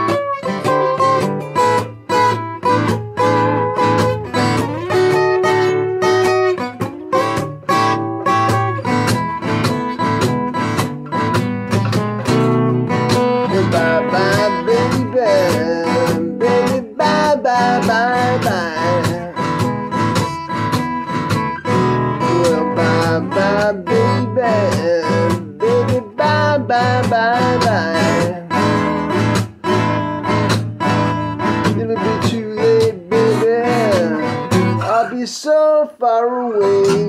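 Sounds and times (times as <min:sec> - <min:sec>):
acoustic guitar blues: 0:00.0 - 0:37.0.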